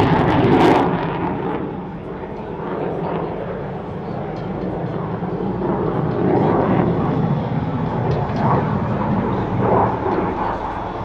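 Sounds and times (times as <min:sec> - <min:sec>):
jet engine rumbling overhead: 0:00.0 - 0:11.0.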